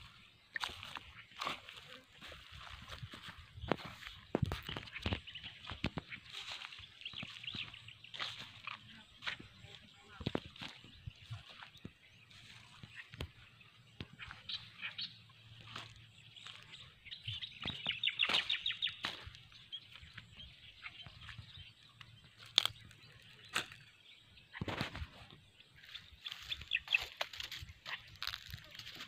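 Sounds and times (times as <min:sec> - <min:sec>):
bird trill: 0:00.0 - 0:29.0
birds chirping: 0:00.0 - 0:29.0.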